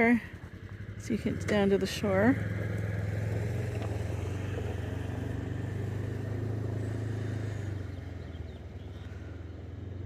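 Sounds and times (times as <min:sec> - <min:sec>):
engine idling drone: 0:00.0 - 0:10.0.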